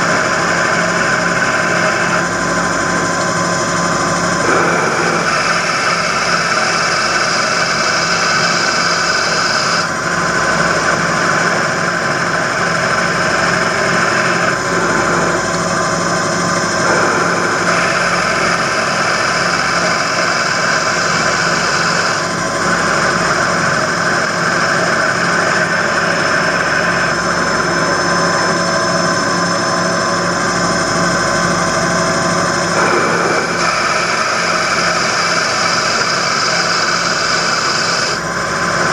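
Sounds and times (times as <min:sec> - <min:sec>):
lathe cutter cutting: 0:00.0 - 0:38.9
lathe motor running: 0:00.0 - 0:38.9.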